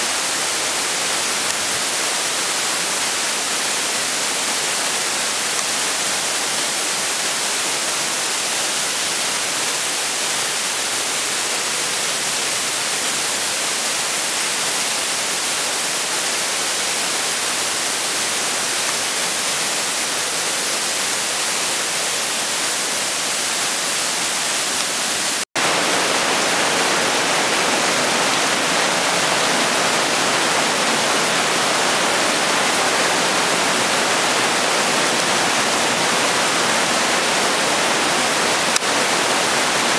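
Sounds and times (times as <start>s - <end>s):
rushing mountain torrent: 0.0s - 39.9s.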